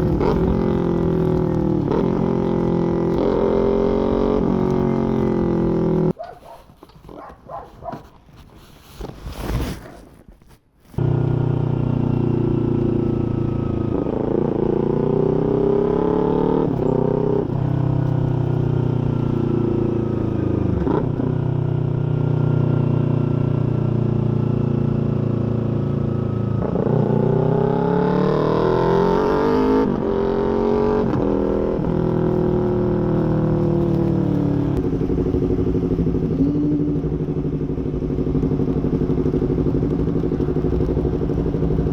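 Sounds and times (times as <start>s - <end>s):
motorcycle engine revving: 0.0s - 6.2s, 11.0s - 41.9s.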